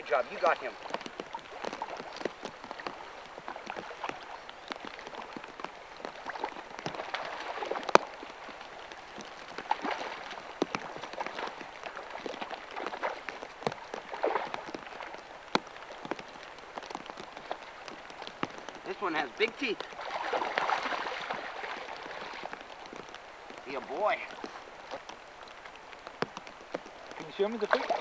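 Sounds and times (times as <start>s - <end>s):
fish splashing: 0.0s - 28.0s
river water running and splashing: 0.0s - 28.0s.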